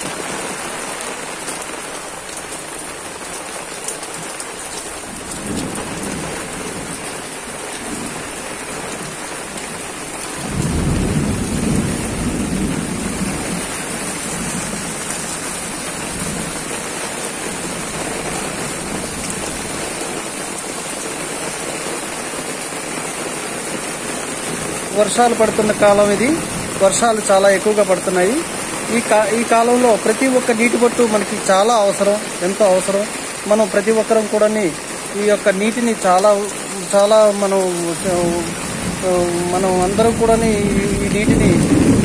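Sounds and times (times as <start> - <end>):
heavy rain on concrete: 0.0 - 42.0.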